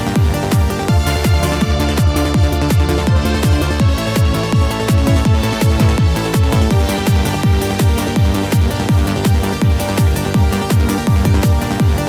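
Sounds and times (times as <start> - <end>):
electronic dance music: 0.0 - 12.0
fast kick drum beat: 0.0 - 12.0.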